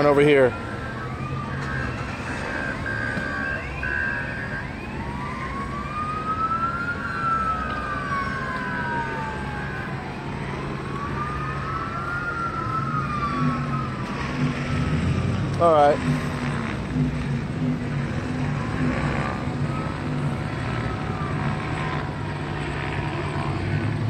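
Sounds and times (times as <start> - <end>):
police siren wailing: 0.0 - 24.0
steady siren tone: 0.0 - 24.0.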